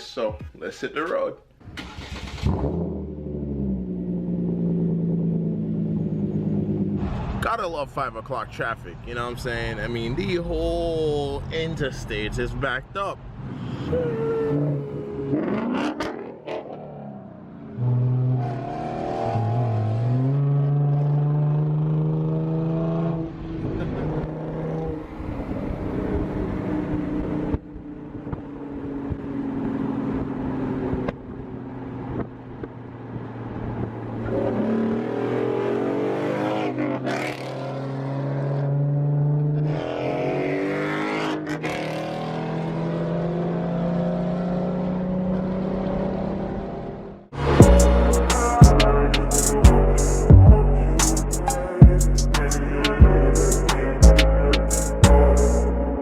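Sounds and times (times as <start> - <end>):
car engine accelerating: 1.7 - 7.4, 13.2 - 56.0.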